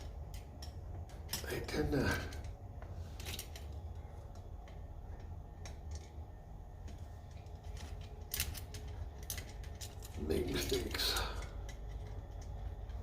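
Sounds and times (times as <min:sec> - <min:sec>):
small metal parts clicking: 0:00.0 - 0:02.6, 0:03.2 - 0:06.2, 0:07.3 - 0:13.0
steady low hum: 0:00.0 - 0:13.0.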